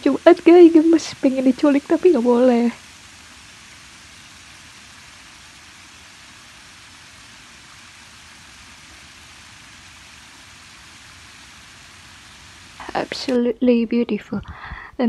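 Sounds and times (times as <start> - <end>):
steady hiss: 0.0 - 13.8.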